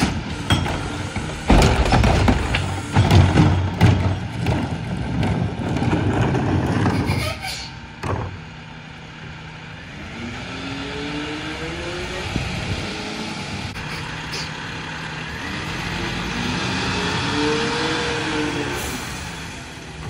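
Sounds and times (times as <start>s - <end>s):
garbage truck engine pulling away: 0.0s - 20.0s.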